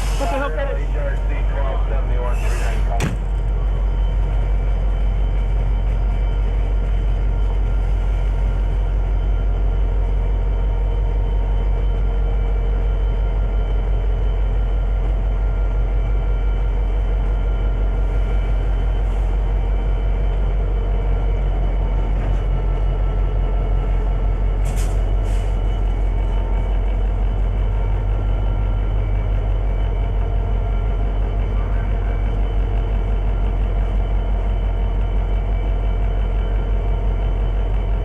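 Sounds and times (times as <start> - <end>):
diesel locomotive droning: 0.0 - 38.0.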